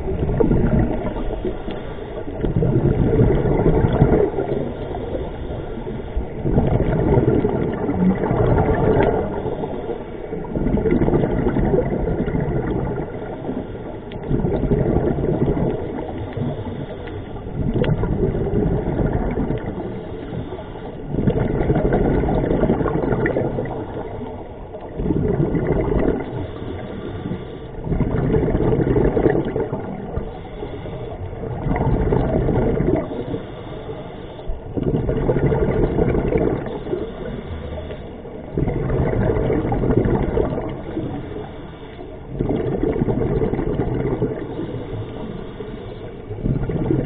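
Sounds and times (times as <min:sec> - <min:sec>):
exhaled bubbles underwater: 0:00.0 - 0:47.0.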